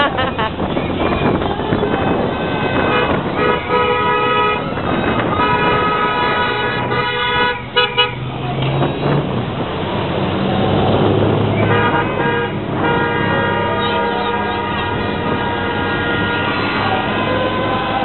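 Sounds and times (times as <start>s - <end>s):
vehicle horns sounding: 0.0s - 8.3s, 11.5s - 18.0s
passing engines running: 0.0s - 18.0s.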